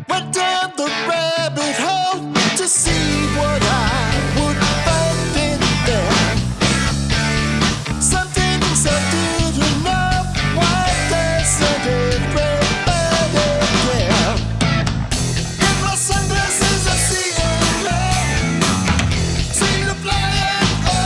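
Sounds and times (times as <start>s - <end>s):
wavering lead guitar line: 0.0s - 21.0s
rock band playing: 0.9s - 21.0s.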